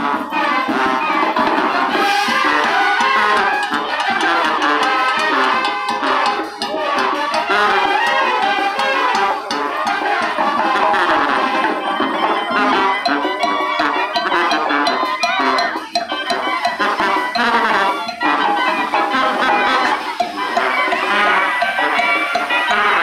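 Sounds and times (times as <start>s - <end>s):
latin band music with drums: 0.0s - 23.0s.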